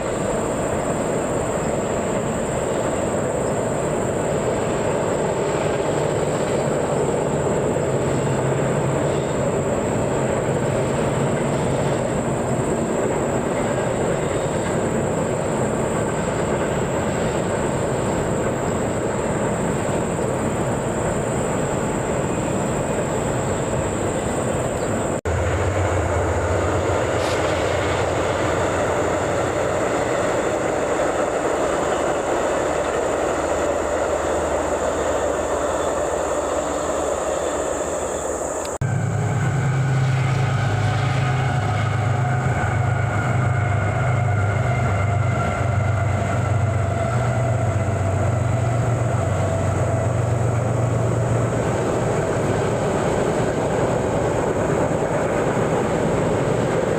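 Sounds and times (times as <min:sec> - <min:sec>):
train rolling on rails: 0:00.0 - 0:56.9.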